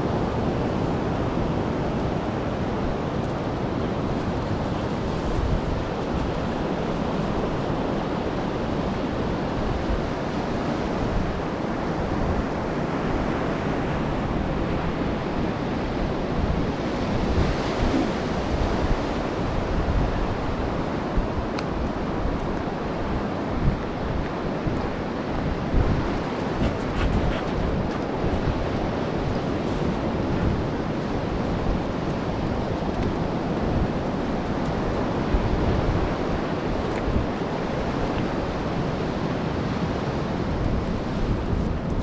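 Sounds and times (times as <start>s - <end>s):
ocean surf washing onto beach: 0.0s - 42.0s
wind buffeting microphone: 0.0s - 42.0s.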